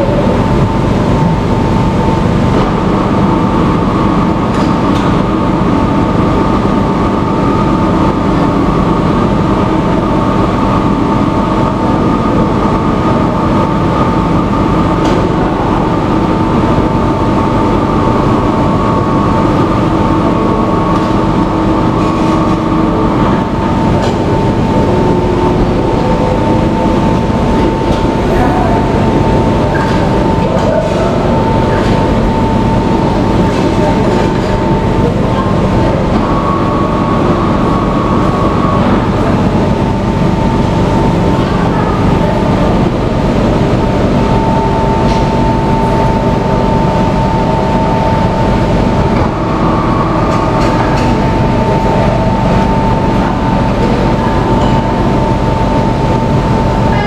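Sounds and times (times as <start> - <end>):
high mechanical whine: 0.0 - 57.0
low mechanical drone: 0.0 - 57.0.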